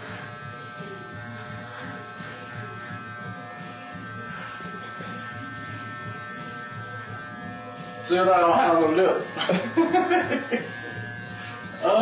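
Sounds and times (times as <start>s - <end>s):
electric hair trimmer buzzing: 0.0s - 12.0s.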